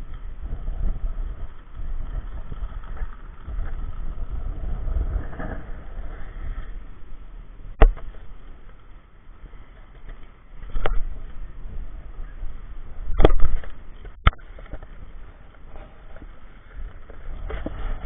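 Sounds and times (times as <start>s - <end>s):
skate wheels rumbling on asphalt: 0.0s - 18.0s.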